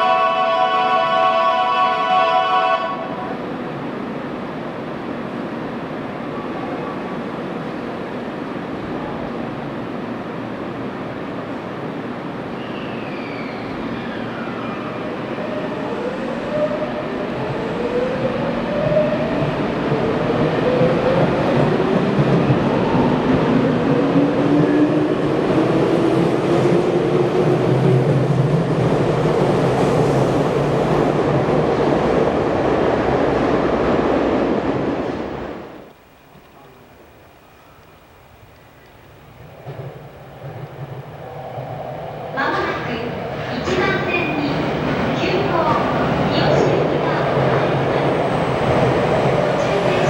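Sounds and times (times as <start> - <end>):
wheels rumbling on rail: 3.0 - 50.0.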